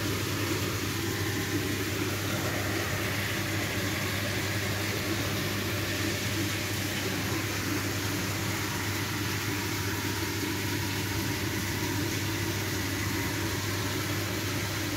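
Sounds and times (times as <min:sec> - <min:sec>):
low machine hum: 0:00.0 - 0:14.9.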